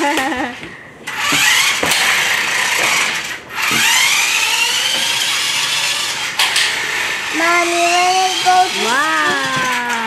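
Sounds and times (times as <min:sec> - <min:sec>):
toy electric motor whining: 0:01.1 - 0:10.0.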